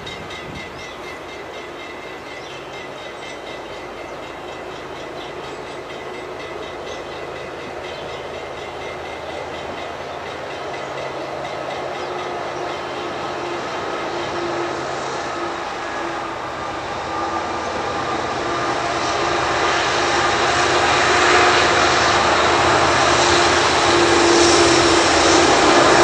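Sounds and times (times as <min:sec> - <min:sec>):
freight train wheels on rail: 0:00.0 - 0:26.0.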